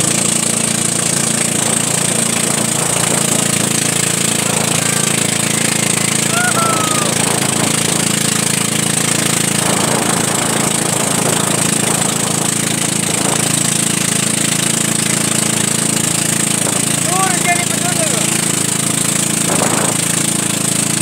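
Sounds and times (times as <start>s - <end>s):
motorboat engine drone: 0.0s - 21.0s
water noise: 0.0s - 21.0s
rushing wind: 1.6s - 20.7s.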